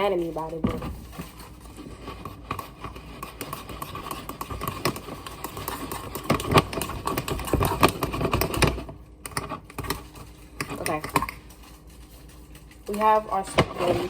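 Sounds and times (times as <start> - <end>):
utensil stirring thick batter: 0.0 - 14.0.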